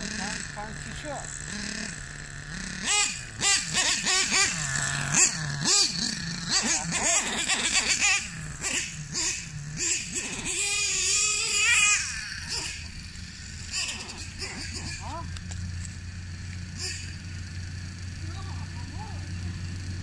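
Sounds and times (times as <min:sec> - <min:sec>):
nitro engine revving: 0:00.0 - 0:20.0.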